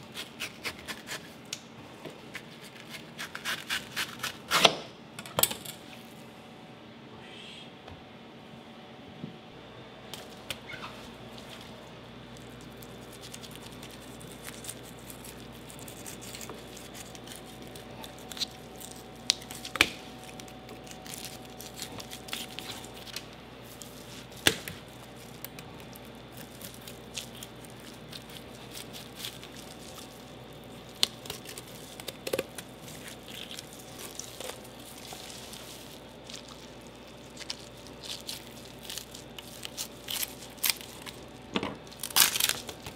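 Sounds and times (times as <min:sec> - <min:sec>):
steady kitchen hum: 0:00.0 - 0:42.9.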